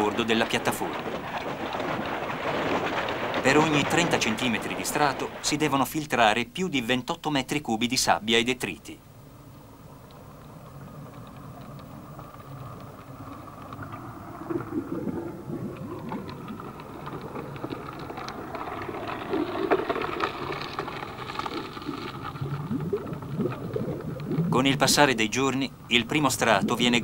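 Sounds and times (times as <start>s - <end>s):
water rushing and splashing: 0.0s - 5.8s, 10.1s - 27.0s.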